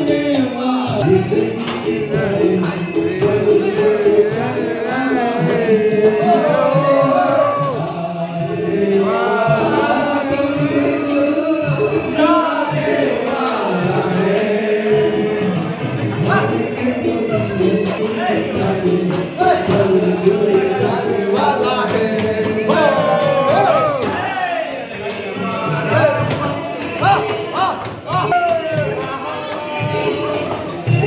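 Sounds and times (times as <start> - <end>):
man singing through loudspeaker: 0.0 - 31.0
musical accompaniment: 0.0 - 31.0.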